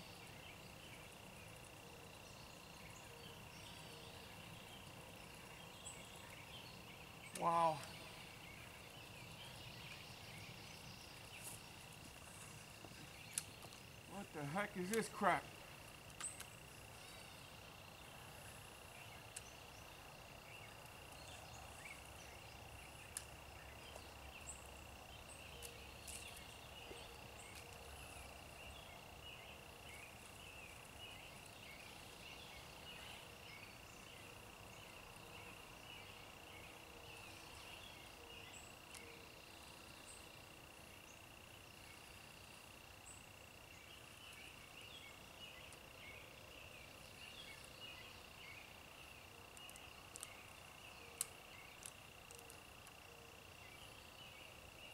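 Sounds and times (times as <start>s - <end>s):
insect high-pitched trill: 0.0s - 54.9s
short insect chirps: 0.0s - 54.9s.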